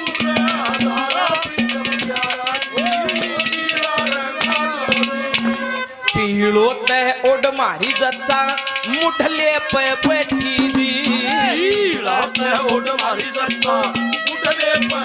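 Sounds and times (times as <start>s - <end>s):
fast hand drum strokes: 0.0s - 15.0s
harmonium melody: 0.0s - 15.0s
jingling percussion: 0.0s - 15.0s.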